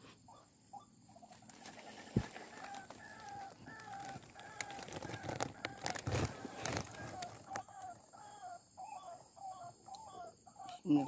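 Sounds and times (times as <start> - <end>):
bird clucking calls: 0.0 - 11.0.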